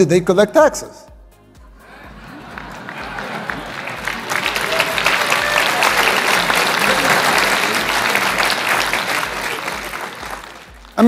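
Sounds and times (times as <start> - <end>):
audience laughing: 1.7 - 10.7
audience applauding: 1.8 - 11.0.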